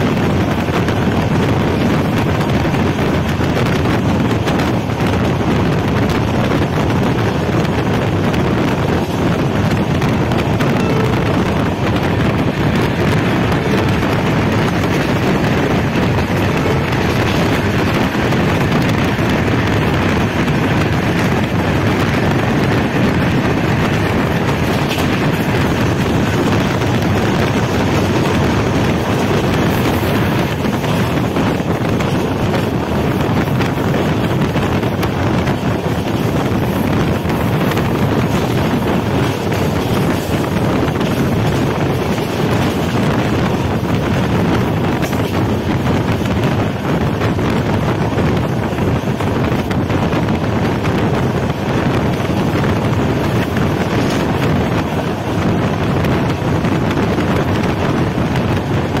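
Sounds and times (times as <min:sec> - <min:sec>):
train wheels on rails: 0:00.0 - 0:59.0
wind on microphone: 0:00.0 - 0:59.0.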